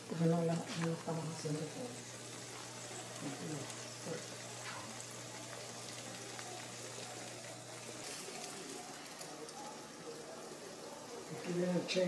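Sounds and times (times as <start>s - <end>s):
eggs sizzling in pan: 0.0s - 12.0s.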